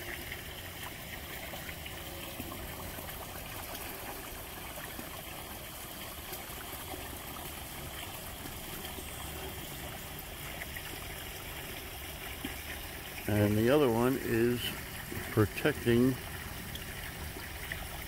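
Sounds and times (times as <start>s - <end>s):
trickling running water: 0.0s - 18.0s.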